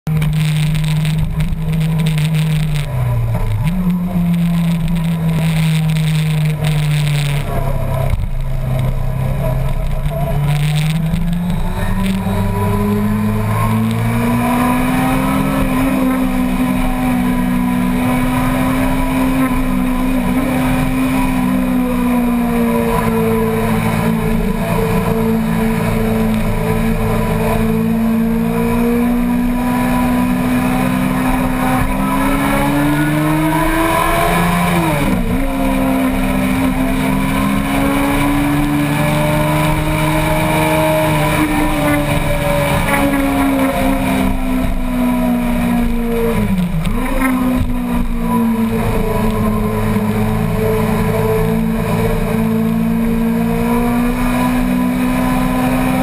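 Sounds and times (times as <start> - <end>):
motorcycle engine running: 0.1 - 56.0.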